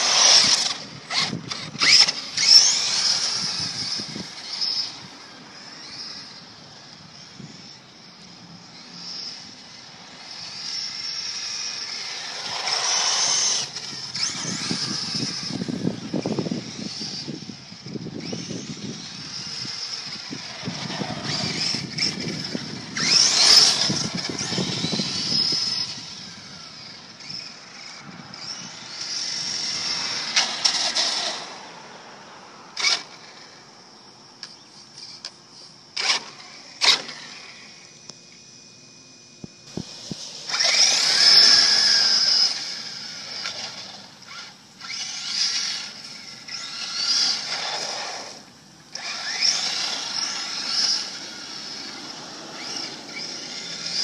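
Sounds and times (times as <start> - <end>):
rc truck motor whine: 0.0 - 54.0.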